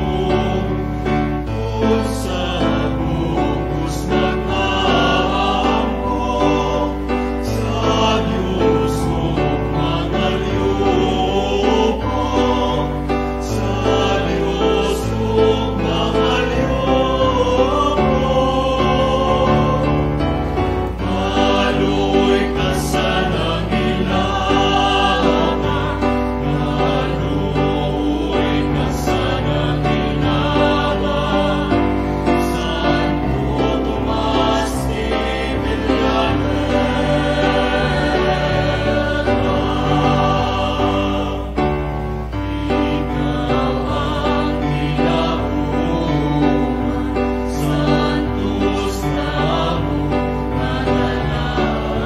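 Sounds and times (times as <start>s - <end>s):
choir singing a hymn: 0.0s - 52.0s.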